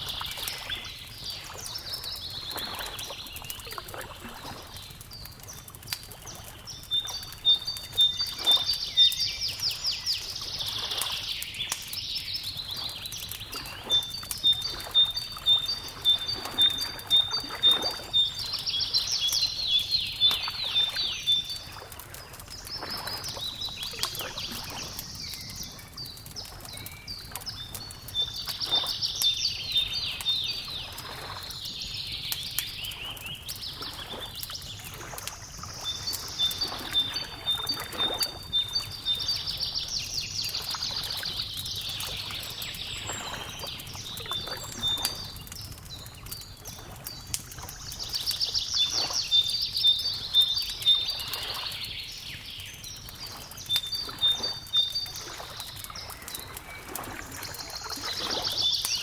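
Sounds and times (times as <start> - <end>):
birds singing trills: 0.0 - 59.0
lake water lapping: 0.0 - 59.0
wood fire crackling: 0.0 - 59.0.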